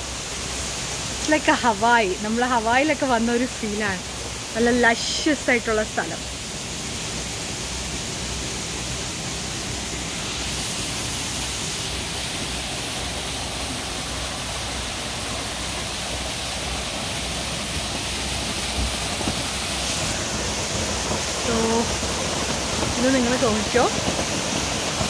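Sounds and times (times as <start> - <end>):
steady rushing hiss: 0.0 - 25.0.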